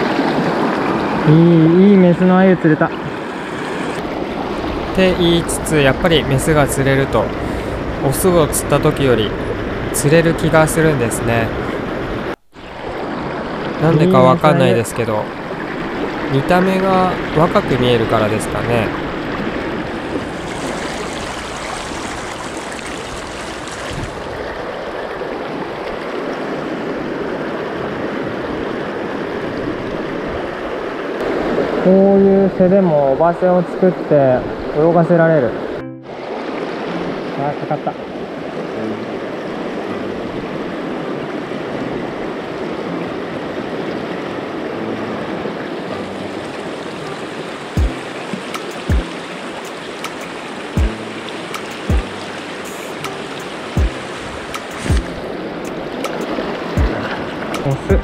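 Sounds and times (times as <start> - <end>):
water rushing over stones: 0.0 - 30.3, 36.1 - 58.0.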